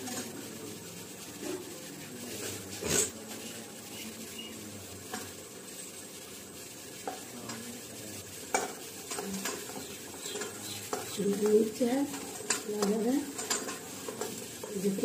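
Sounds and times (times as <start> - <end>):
pot hissing: 0.0 - 15.0.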